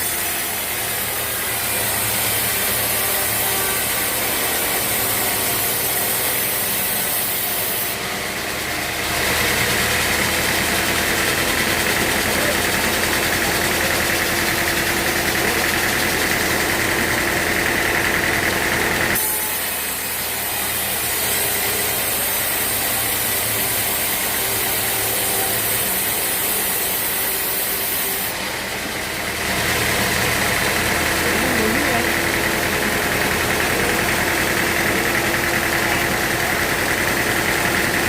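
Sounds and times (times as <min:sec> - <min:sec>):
sawmill machinery engine running: 0:00.0 - 0:38.0.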